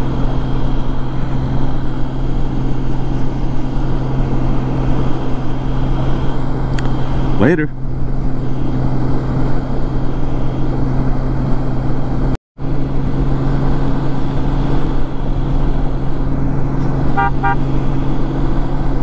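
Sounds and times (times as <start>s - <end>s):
motorcycle engine hum: 0.0s - 19.0s
road and wind noise: 0.0s - 19.0s.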